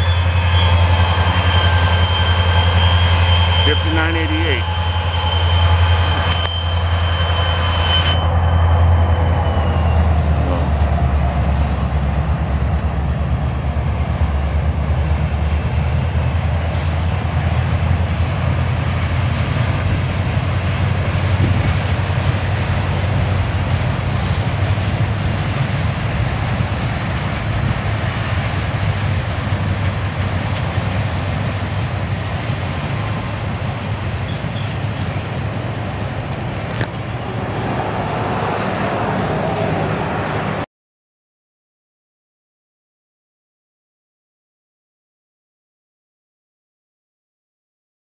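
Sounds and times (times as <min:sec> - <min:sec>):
steel wheels rolling on rail: 0:00.0 - 0:40.6.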